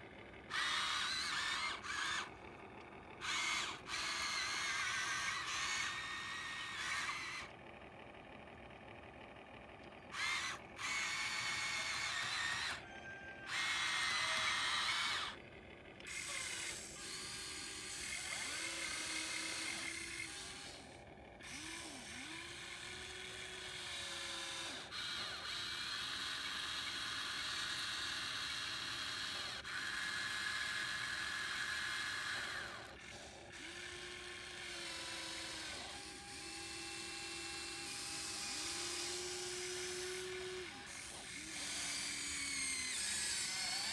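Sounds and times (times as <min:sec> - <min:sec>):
electric motors and hydraulic pump whining: 0:00.0 - 0:43.9.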